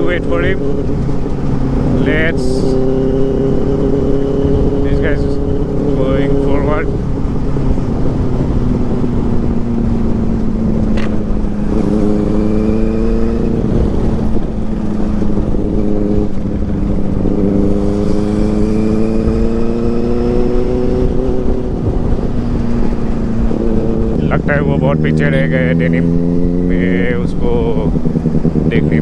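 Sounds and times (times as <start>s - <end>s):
motorcycle engine cruising: 0.0s - 29.0s
wind rushing: 0.0s - 29.0s.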